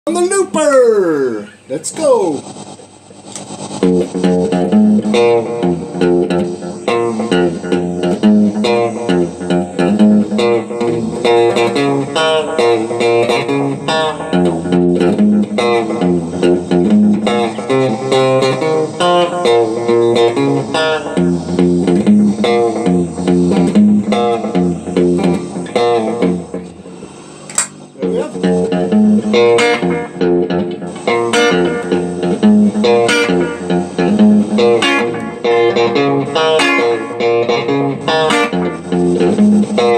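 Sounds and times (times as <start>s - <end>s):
layered plucked guitar loop: 3.8s - 27.0s, 27.6s - 39.9s.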